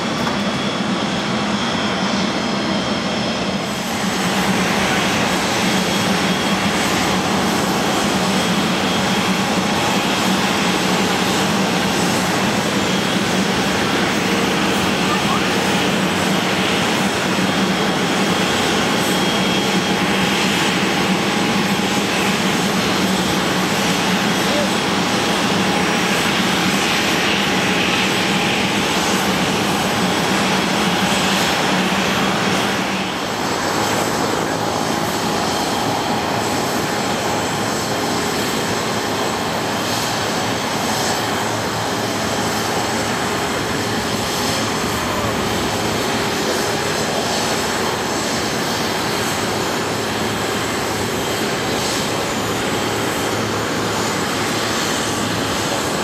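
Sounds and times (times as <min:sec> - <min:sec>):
jet engines whining: 0:00.0 - 0:56.0
jet taxiing: 0:00.0 - 0:56.0.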